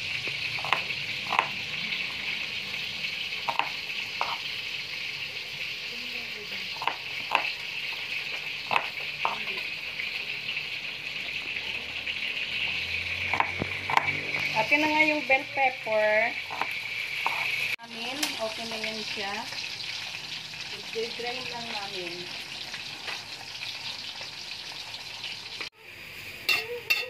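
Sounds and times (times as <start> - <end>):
pan sizzling: 0.0 - 27.0.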